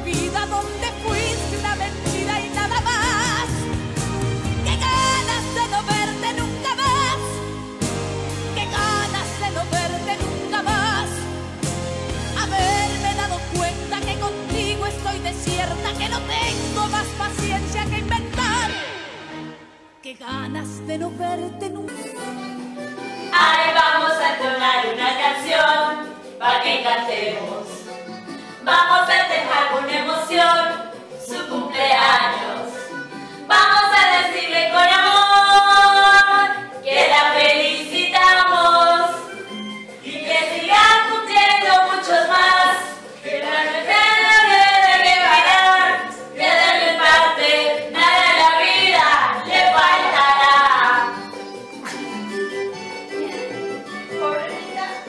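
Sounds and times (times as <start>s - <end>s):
song with singing voices: 0.0s - 55.0s.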